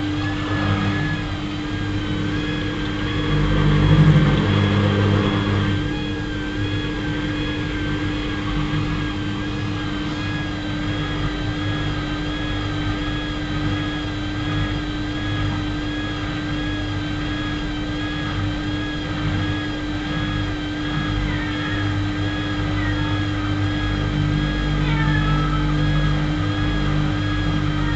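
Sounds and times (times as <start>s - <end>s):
washing machine humming: 0.0s - 27.9s.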